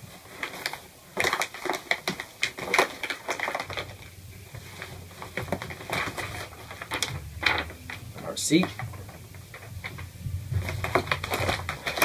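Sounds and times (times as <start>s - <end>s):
paper envelope tearing and crinkling: 0.0s - 12.0s.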